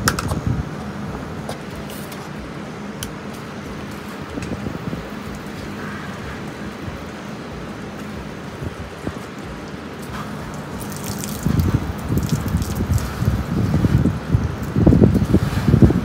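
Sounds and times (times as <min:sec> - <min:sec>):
wind buffeting microphone: 0:00.0 - 0:16.0
hose water spraying on truck: 0:00.4 - 0:16.0.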